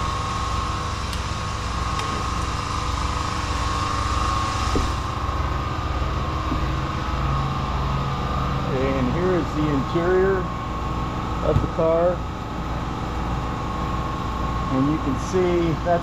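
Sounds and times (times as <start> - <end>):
low pulsing rumble: 0.0 - 16.0
machine hum with faint whine: 0.0 - 16.0.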